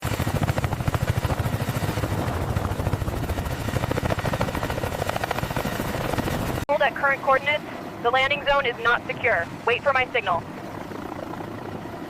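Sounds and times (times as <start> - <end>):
helicopter rotor blades chopping: 0.0 - 12.0.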